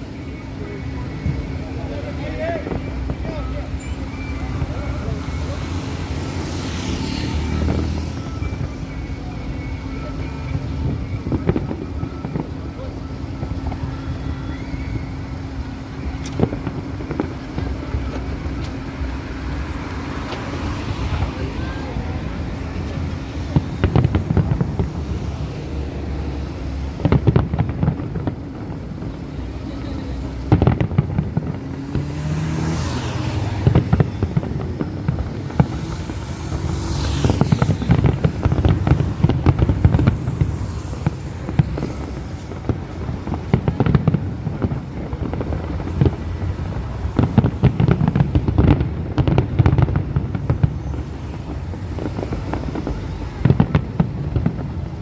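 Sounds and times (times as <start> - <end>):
whistling firework shells: 0.0 - 54.6
fireworks booms and crackling bangs: 0.0 - 55.0.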